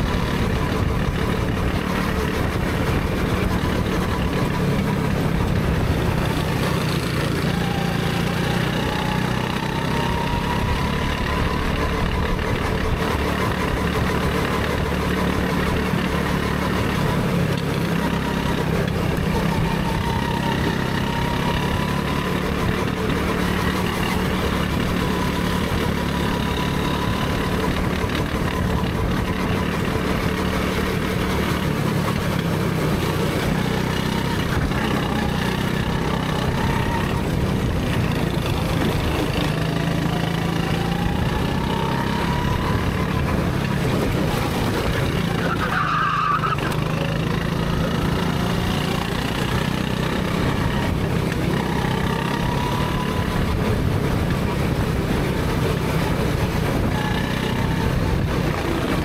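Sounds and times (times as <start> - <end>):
go-kart engine: 0.0 - 59.0.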